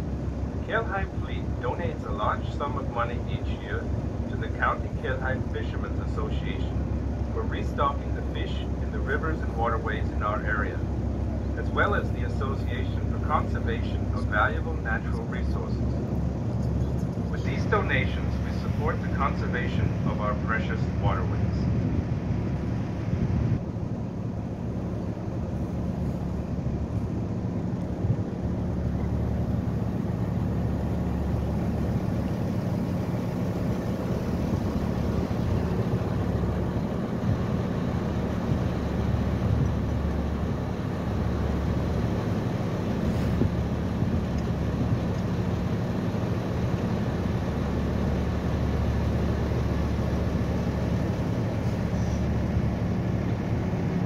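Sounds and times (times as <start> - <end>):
boat engine humming: 0.0 - 54.0
rushing water and air: 0.0 - 54.0.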